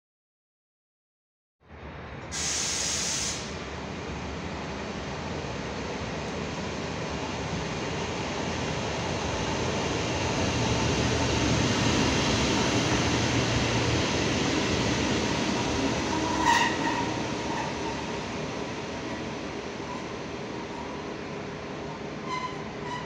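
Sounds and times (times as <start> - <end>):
electric locomotive passing: 3.5 - 23.0.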